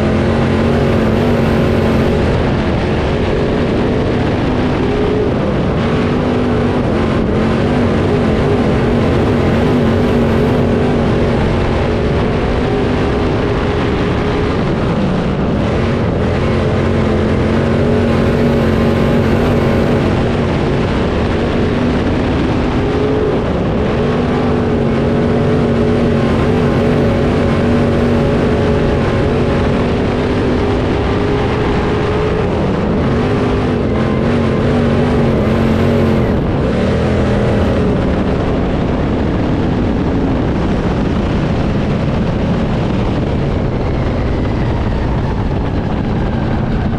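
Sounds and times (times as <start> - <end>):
race car engine running hard: 0.0 - 46.9.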